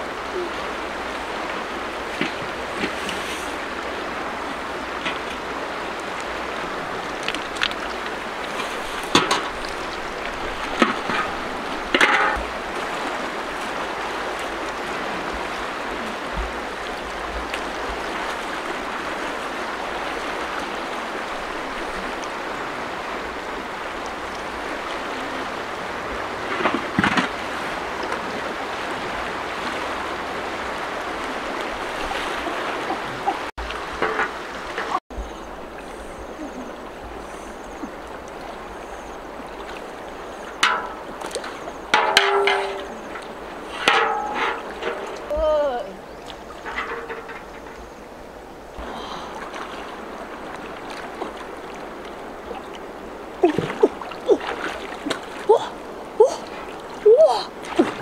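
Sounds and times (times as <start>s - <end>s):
river water rushing: 0.0s - 58.0s
splashes and knocks: 1.1s - 36.1s, 37.3s - 48.2s, 48.8s - 58.0s.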